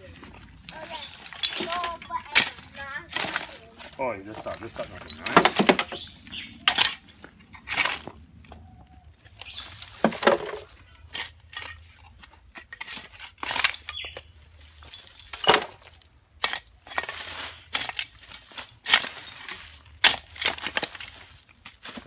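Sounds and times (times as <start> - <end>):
debris clinking and scraping: 0.0 - 8.2, 9.0 - 22.0.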